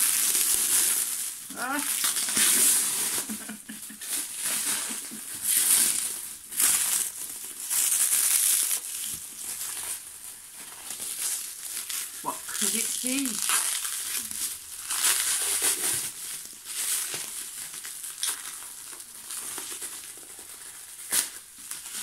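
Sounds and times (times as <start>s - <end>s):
plastic film crinkling: 0.0s - 22.0s.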